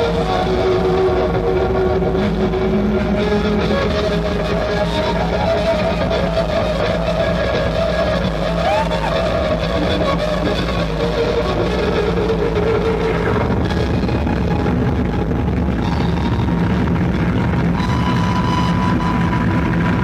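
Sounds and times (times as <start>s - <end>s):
electric guitar noise drone: 0.0s - 20.0s.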